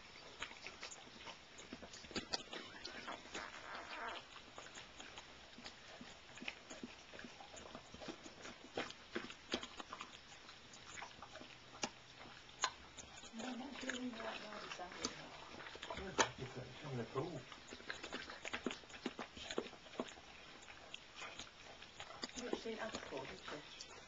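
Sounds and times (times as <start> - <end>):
dog licking wetly: 0.0 - 24.0.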